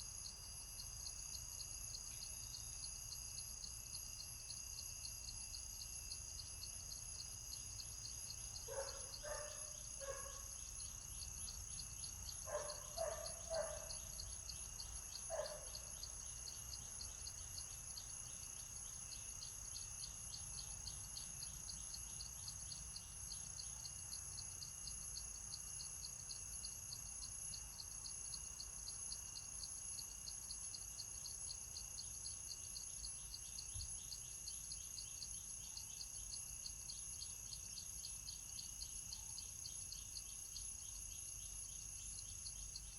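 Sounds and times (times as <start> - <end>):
insect chorus: 0.0 - 42.9.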